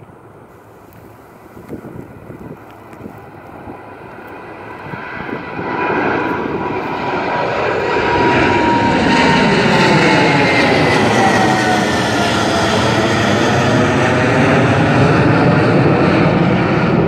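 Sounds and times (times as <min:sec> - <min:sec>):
high jet engine whine: 0:00.0 - 0:17.0
jet airliner taking off: 0:00.0 - 0:17.0.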